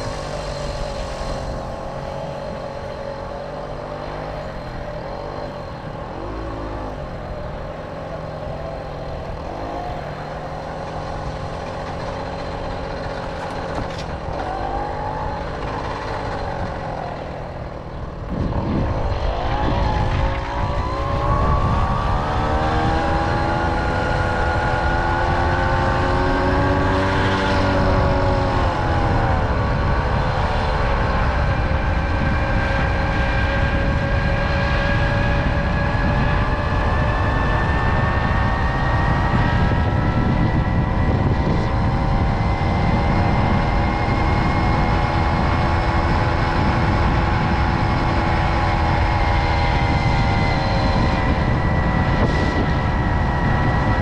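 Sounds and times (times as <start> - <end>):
moped engine running: 0.0 - 54.0
wind on microphone: 0.0 - 54.0.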